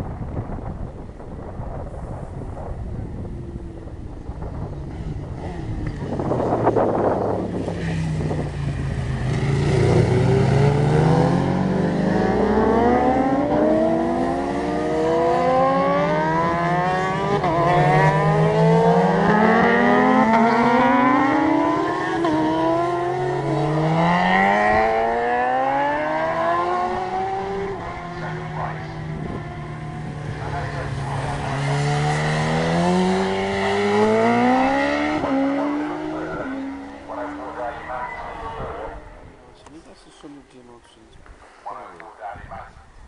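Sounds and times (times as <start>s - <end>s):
motorcycle engines accelerating: 2.6s - 41.0s.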